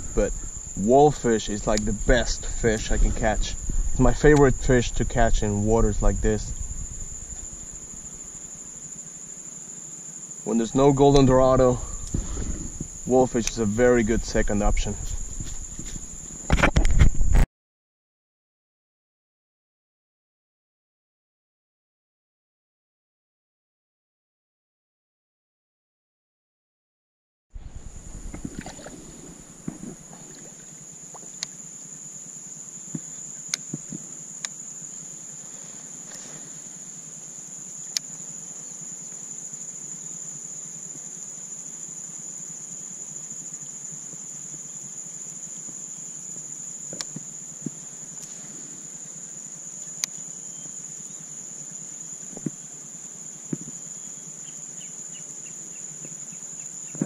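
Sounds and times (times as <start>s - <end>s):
insects droning: 0.0s - 17.5s, 27.6s - 57.0s.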